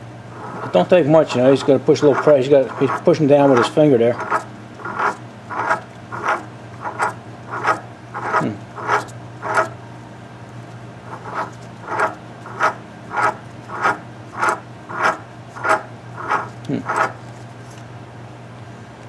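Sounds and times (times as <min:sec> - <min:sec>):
metal cutter rasping: 0:00.4 - 0:09.7, 0:11.1 - 0:17.2.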